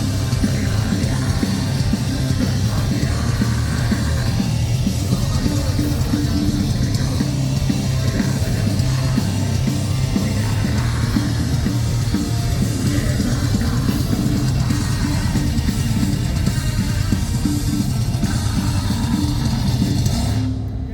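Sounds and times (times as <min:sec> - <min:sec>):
metal band playing live: 0:00.0 - 0:20.9.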